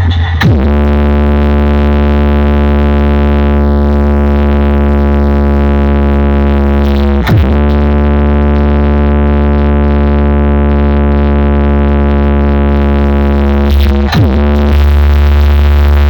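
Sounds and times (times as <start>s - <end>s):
bass-heavy synthesizer drone: 0.0s - 16.0s.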